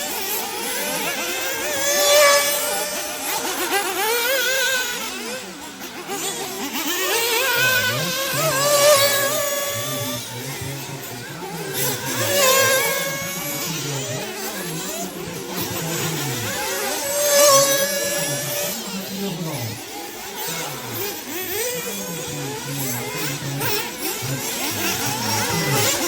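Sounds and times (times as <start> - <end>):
small engines revving: 0.0 - 26.0.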